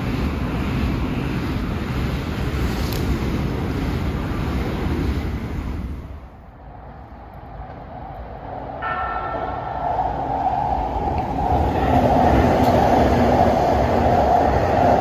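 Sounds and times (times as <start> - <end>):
electric train whine and rumble: 0.0 - 15.0
high-speed train rushing past: 0.0 - 15.0.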